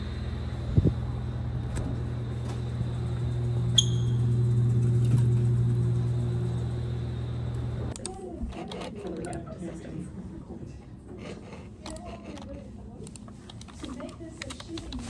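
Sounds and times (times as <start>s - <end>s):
fridge cooling machinery hum: 0.0s - 15.0s.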